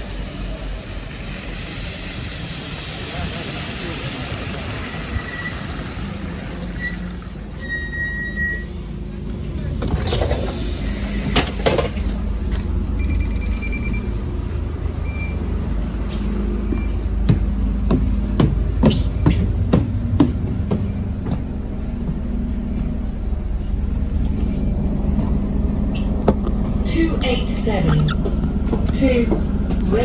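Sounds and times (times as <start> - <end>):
bus diesel engine humming: 0.0 - 30.0.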